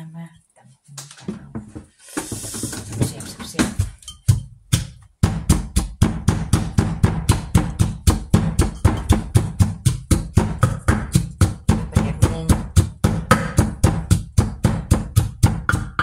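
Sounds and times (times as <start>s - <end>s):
pestle pounding in clay mortar: 2.3s - 16.0s.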